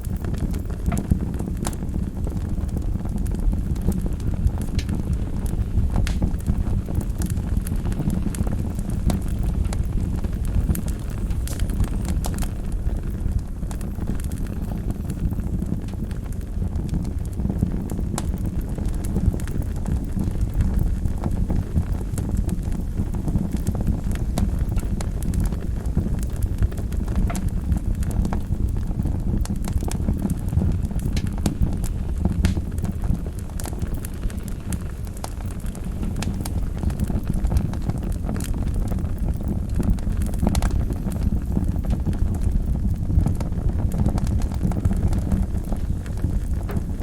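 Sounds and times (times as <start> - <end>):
fire crackling and popping: 0.0 - 47.0
wood fire burning: 0.0 - 47.0.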